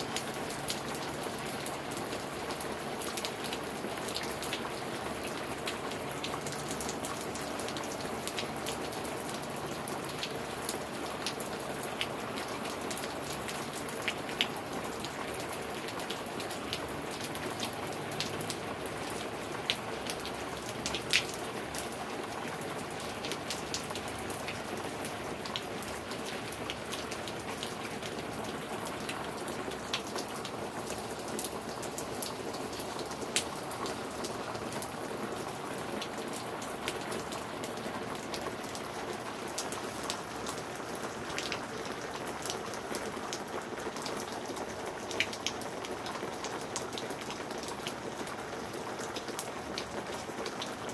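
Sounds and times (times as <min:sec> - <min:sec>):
rain drops ticking on hard surface: 0:00.0 - 0:50.9.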